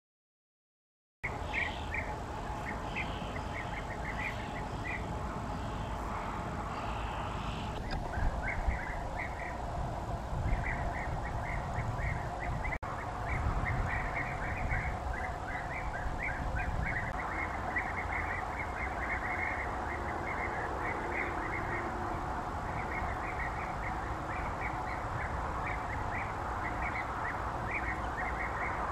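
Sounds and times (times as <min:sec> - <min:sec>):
birds calling in chorus: 0:01.2 - 0:09.7, 0:10.4 - 0:28.9.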